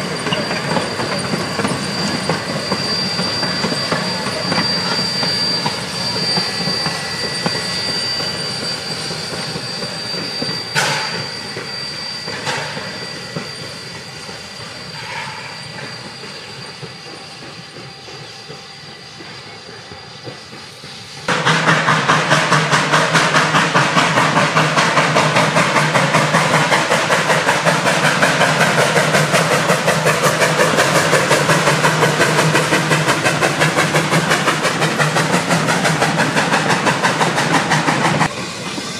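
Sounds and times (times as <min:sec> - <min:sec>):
steam locomotive exhaust chuffs: 0:00.0 - 0:38.9
train wheel squeal: 0:00.0 - 0:38.9.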